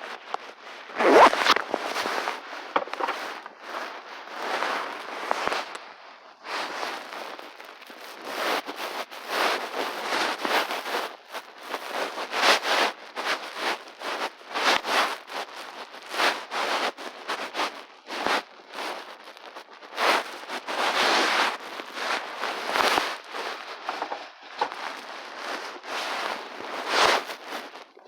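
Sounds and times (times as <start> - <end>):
crackling and popping: 0.0 - 28.0.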